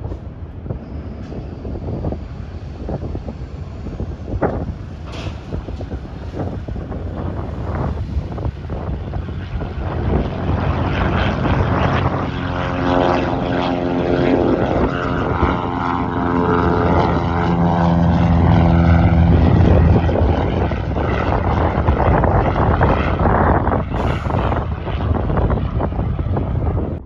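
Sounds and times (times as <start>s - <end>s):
propeller plane engine drone: 0.0s - 27.0s
wind rumbling on microphone: 0.0s - 27.0s.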